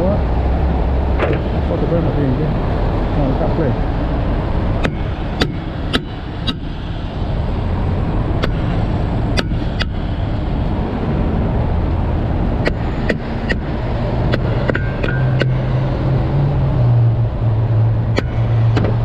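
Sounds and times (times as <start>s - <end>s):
vehicle engine rumble: 0.0s - 19.0s.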